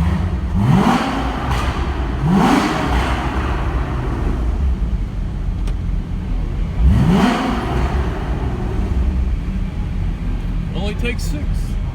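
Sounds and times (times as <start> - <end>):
car engine revving and idling: 0.0 - 11.9.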